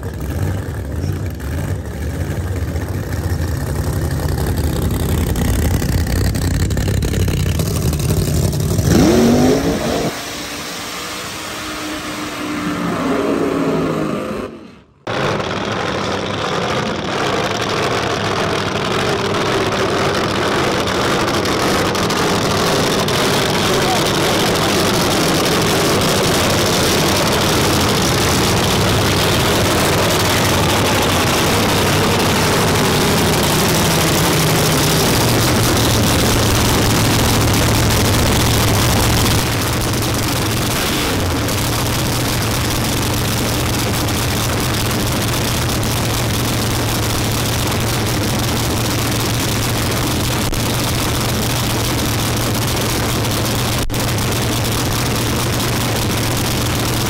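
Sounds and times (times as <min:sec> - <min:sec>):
drag race car engines idling: 0:00.0 - 0:57.0.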